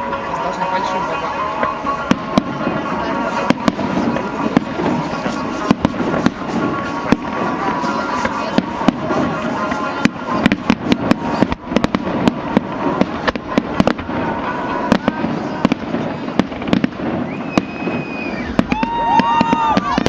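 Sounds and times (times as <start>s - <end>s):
faint music: 0.0s - 20.0s
fireworks bangs and crackles: 0.0s - 20.0s.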